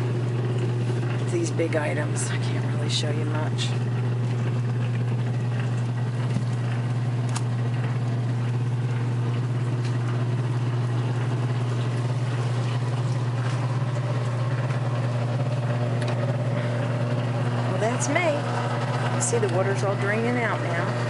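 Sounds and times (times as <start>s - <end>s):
washing machine motor humming: 0.0s - 21.0s.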